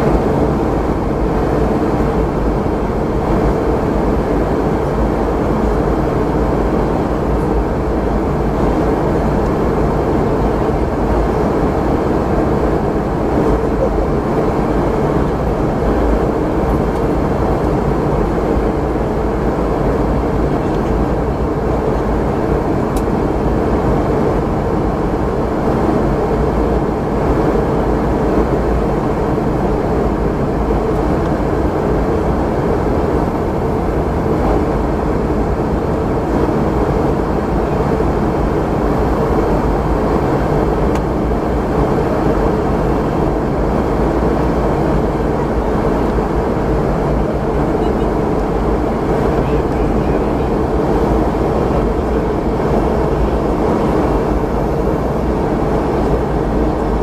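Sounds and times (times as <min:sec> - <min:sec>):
airflow noise: 0:00.0 - 0:57.0
jet engine cabin drone: 0:00.0 - 0:57.0.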